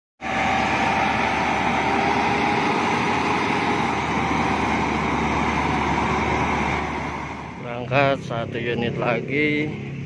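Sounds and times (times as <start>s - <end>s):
diesel engine idling: 0.2s - 10.0s.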